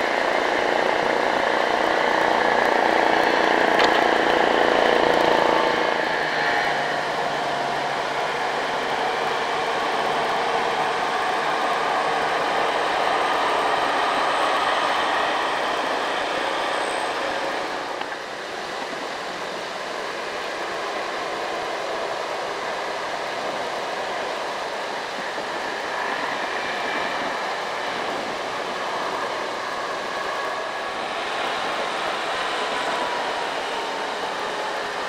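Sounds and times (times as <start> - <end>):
diesel truck engine: 0.0 - 35.0.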